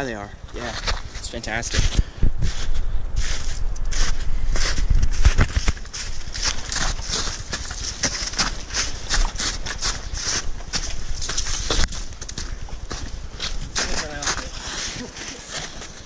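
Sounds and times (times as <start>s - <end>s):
boots stepping through snow: 2.4s - 16.0s.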